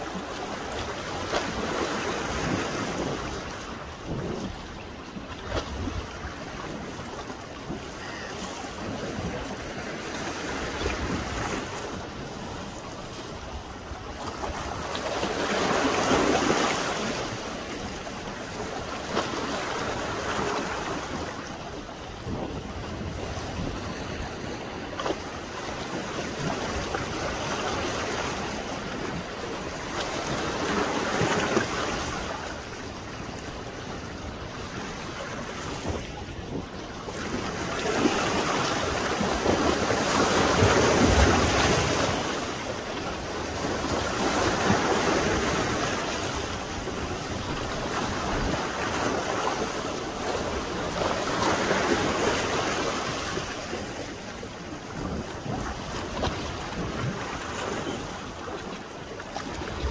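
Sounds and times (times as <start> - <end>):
waves breaking on pebbly beach: 0.0 - 59.9.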